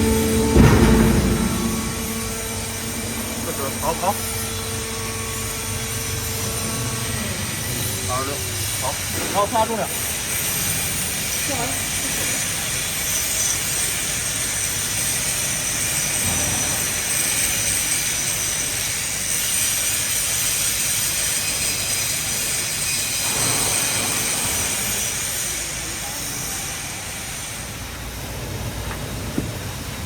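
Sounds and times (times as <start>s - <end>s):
hydraulic baler droning and hissing: 0.0s - 30.0s.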